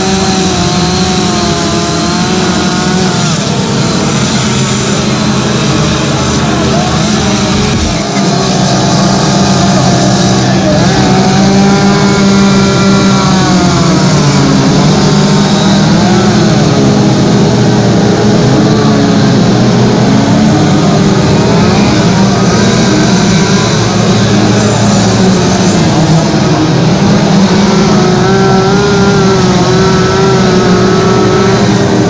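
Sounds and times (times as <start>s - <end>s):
chainsaws cutting wood: 0.0s - 32.0s.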